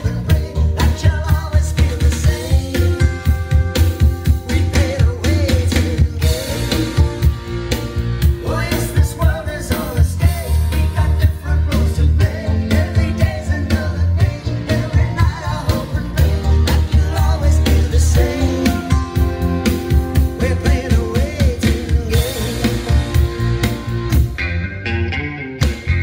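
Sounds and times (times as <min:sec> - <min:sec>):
song played through loudspeaker: 0:00.0 - 0:26.0.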